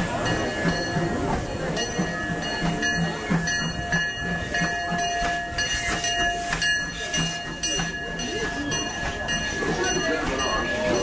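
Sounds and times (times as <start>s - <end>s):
train cars clattering past: 0.0s - 11.0s.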